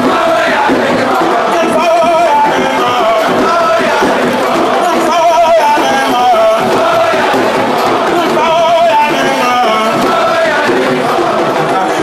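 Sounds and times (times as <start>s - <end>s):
crowd voices: 0.0s - 12.0s
devotional chant with wavering notes: 0.0s - 12.0s.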